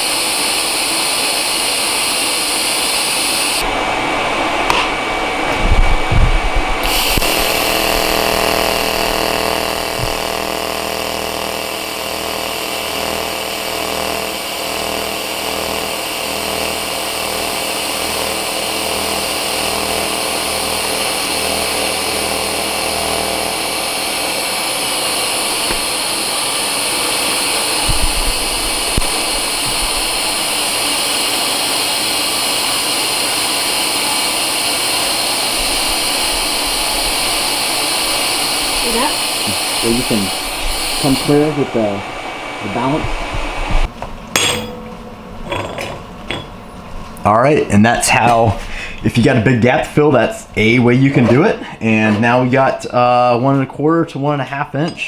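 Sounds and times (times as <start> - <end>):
welding arc hiss: 0.0 - 44.7
pulsing buzzing hum: 0.0 - 48.2.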